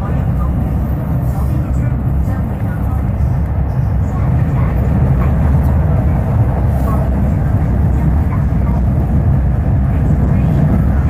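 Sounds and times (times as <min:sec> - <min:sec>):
metro train rumbling through tunnel: 0:00.0 - 0:11.0.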